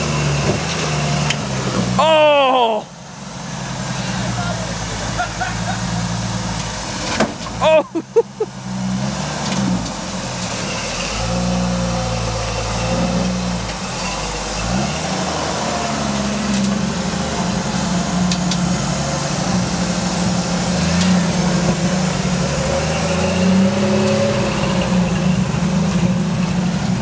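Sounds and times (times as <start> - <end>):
off-road engine revving: 0.0 - 27.0.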